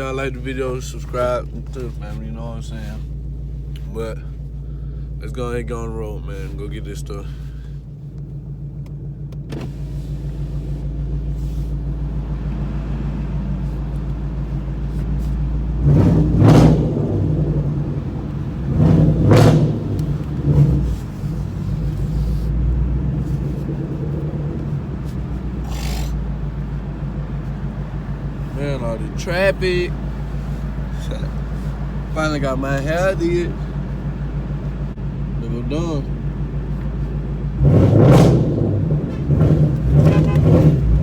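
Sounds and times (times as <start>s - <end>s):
deep exhaust drone: 0.0s - 41.0s.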